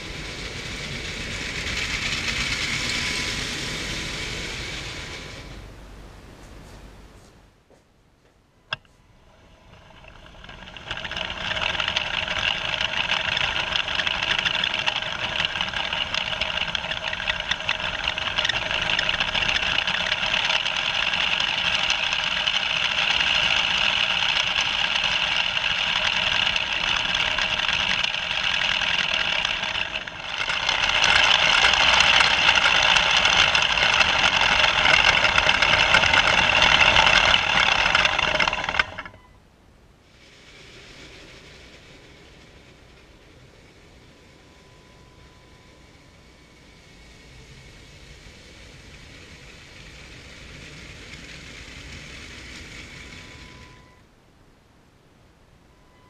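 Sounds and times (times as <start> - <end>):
toy train motor whine: 0.0 - 5.7, 8.8 - 39.4, 40.0 - 54.1, 55.6 - 56.0.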